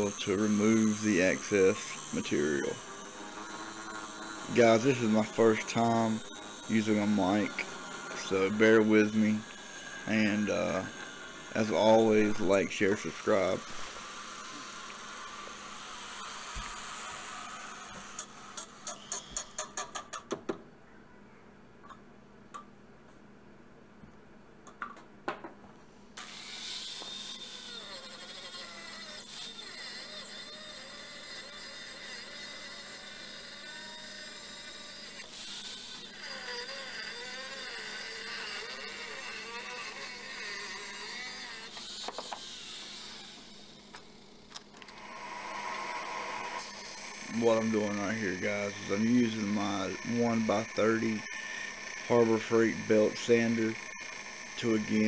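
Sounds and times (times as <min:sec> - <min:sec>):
angle grinder cutting steel: 0:00.0 - 0:19.9, 0:26.2 - 0:44.2, 0:44.9 - 0:55.0.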